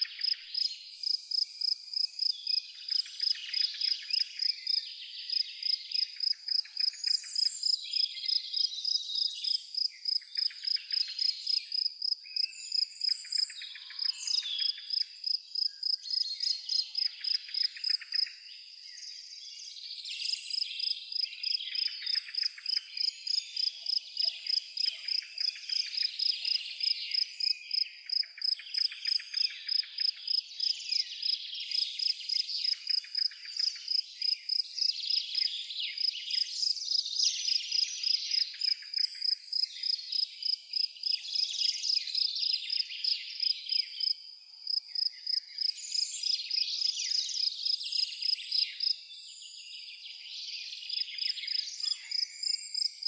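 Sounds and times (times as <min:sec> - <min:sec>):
insect chirping: 0:00.0 - 0:19.1, 0:20.5 - 0:50.0, 0:50.8 - 0:53.0
bird calls and chirps: 0:00.0 - 0:53.0.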